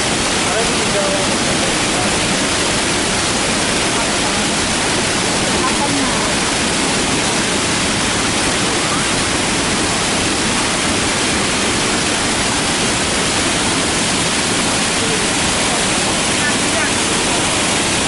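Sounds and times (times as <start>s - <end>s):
river water rushing through rapids: 0.0s - 18.0s.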